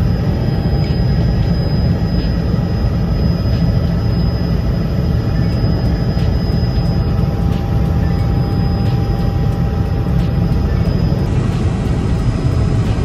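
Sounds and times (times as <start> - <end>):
helicopter engine and rotor rumble: 0.0 - 13.0
high whine: 0.0 - 13.0.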